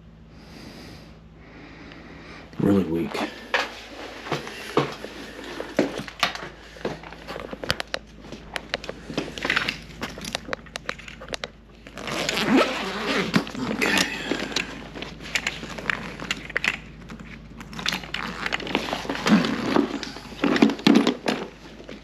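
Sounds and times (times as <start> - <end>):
hands handling fan parts: 3.1 - 22.0.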